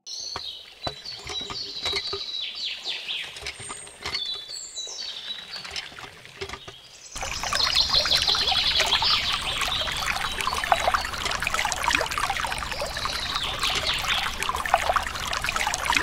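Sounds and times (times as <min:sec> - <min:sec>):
water trickling and pouring: 0:00.2 - 0:16.0.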